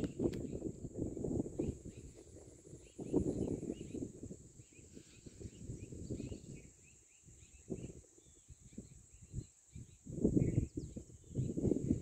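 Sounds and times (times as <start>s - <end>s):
birds chirping: 0.0s - 0.8s, 1.4s - 12.0s
high insect drone: 0.0s - 12.0s
wind buffeting microphone: 0.0s - 12.0s.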